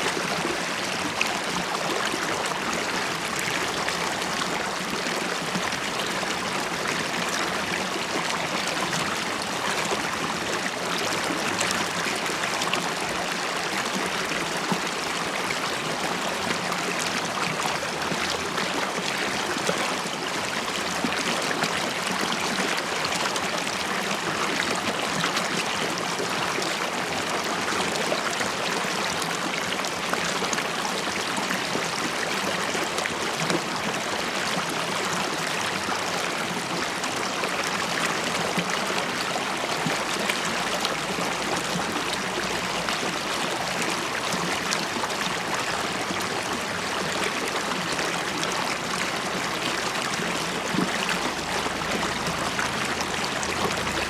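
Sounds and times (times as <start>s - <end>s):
river water bubbling over stones: 0.0s - 54.0s.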